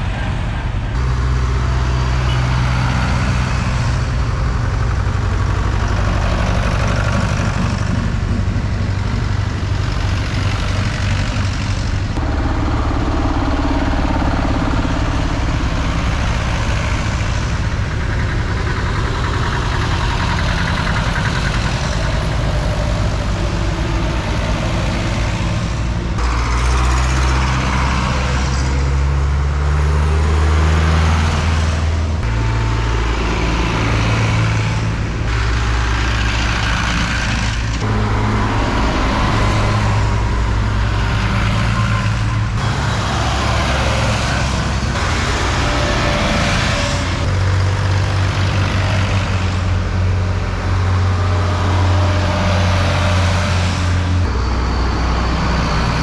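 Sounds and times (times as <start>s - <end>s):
tractor engines chugging: 0.0s - 56.0s.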